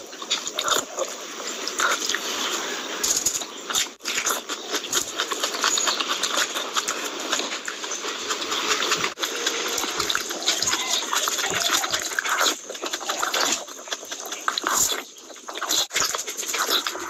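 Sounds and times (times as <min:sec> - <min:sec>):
wet chewing and lip-smacking: 0:00.0 - 0:17.0.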